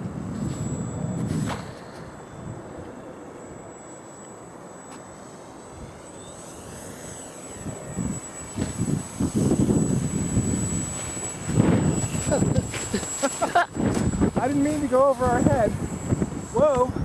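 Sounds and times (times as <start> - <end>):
wind buffeting microphone: 0.0 - 3.0, 5.8 - 17.0
model plane propeller droning: 0.0 - 17.0.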